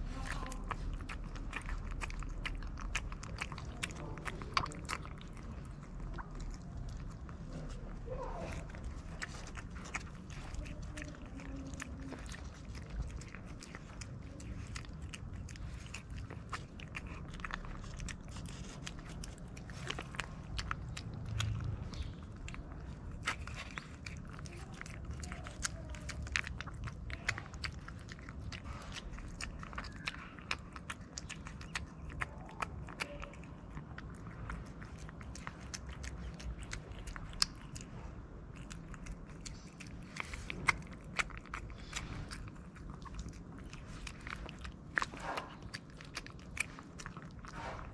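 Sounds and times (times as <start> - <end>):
cat chewing and lip-smacking: 0.0 - 47.9
low background rumble: 0.0 - 47.9.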